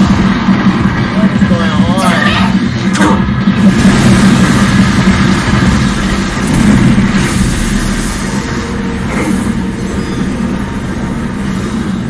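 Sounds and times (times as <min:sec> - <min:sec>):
low rumbling soundtrack: 0:00.0 - 0:12.0.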